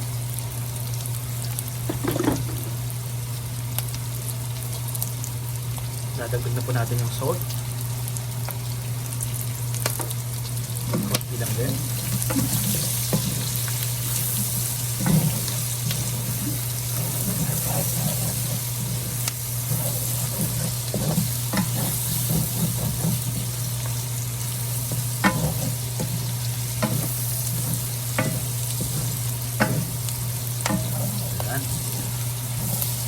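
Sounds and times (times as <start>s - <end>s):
vegetables sizzling in a pan: 0.0s - 33.0s
steady low hum: 5.7s - 33.0s.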